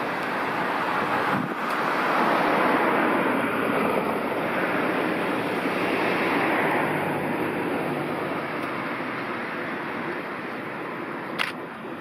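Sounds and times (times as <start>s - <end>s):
car tyres on street: 0.0s - 12.0s.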